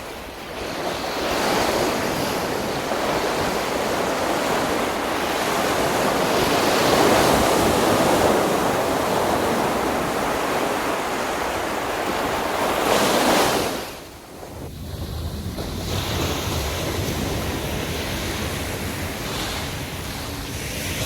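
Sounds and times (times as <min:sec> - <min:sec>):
sea waves breaking on sand: 0:00.0 - 0:21.0
wind buffeting microphone: 0:00.0 - 0:21.0.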